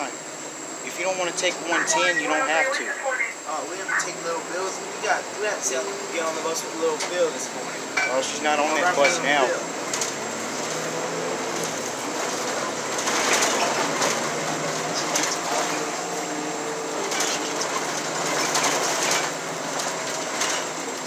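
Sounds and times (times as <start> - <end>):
bus engine hum: 0.0 - 21.0
road rumble: 0.0 - 21.0.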